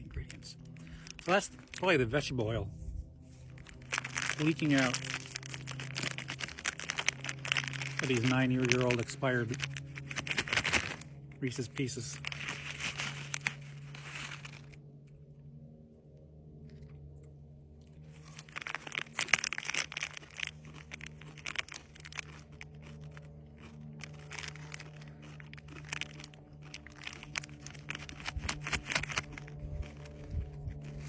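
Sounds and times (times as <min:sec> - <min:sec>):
plastic candy wrapper crinkling: 0:00.0 - 0:02.5, 0:03.3 - 0:14.8, 0:18.0 - 0:31.0.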